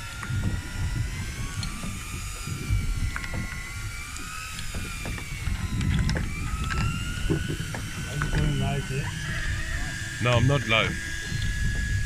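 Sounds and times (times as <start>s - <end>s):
outboard motor whining: 0.0s - 12.0s.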